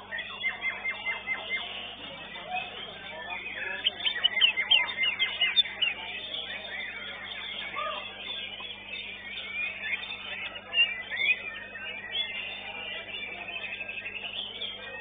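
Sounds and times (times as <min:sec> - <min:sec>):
songbirds whistling and chirping: 0:00.0 - 0:15.0.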